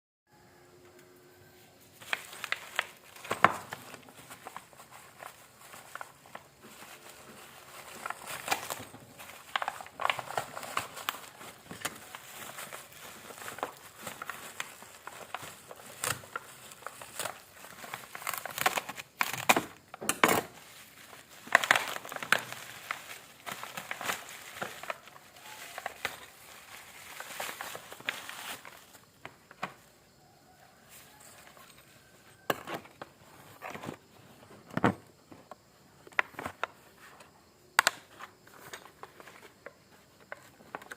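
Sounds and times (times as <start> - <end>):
packaging crinkling and rustling: 1.4 - 40.9.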